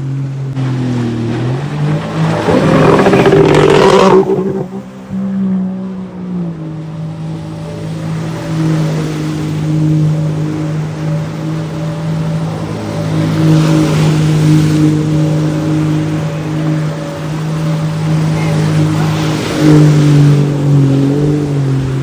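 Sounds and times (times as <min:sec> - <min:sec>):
rushing water noise: 0:00.0 - 0:05.5, 0:06.1 - 0:22.0
jet ski engine running: 0:00.0 - 0:22.0.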